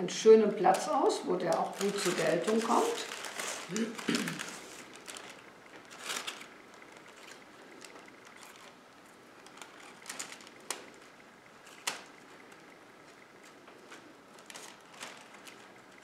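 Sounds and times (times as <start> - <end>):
paper rustling: 0.7 - 16.0.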